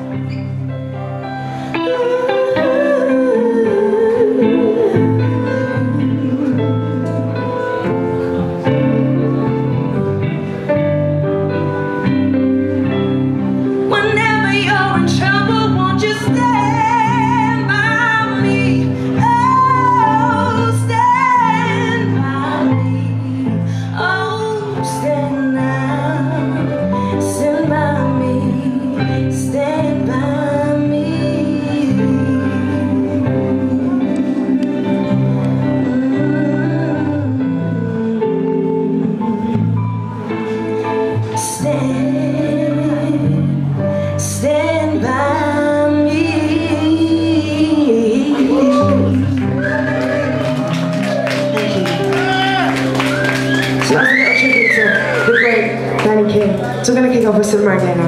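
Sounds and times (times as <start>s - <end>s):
live band playing: 0.0s - 58.0s
woman singing: 1.6s - 10.0s, 11.9s - 52.9s, 53.7s - 58.0s.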